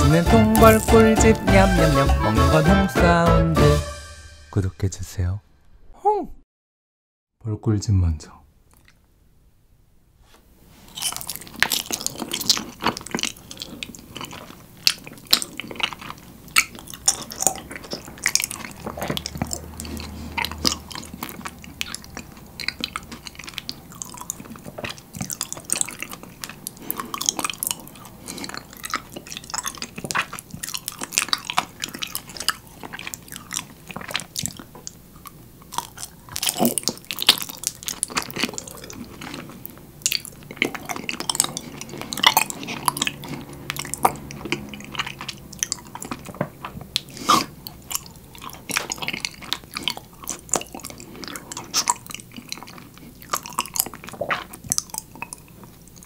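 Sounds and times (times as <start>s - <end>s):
honeycomb crackling when chewed: 0.4s - 1.2s, 10.8s - 56.0s.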